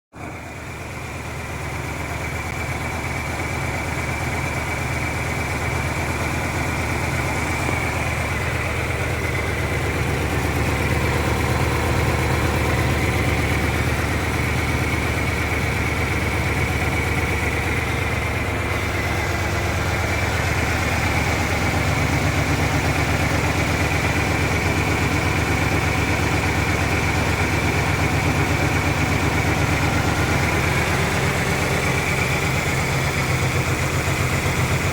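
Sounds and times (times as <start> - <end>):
truck engine idling: 0.1 - 34.9.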